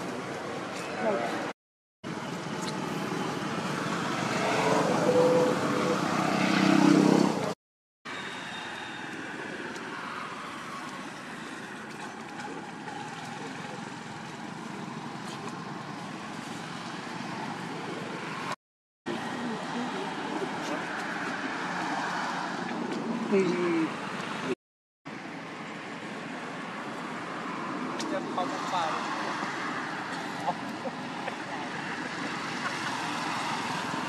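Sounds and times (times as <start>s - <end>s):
distant traffic hum: 0.0s - 34.0s.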